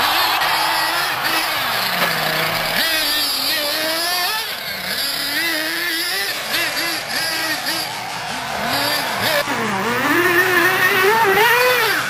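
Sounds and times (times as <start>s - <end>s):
small nitro engines revving: 0.0s - 12.0s.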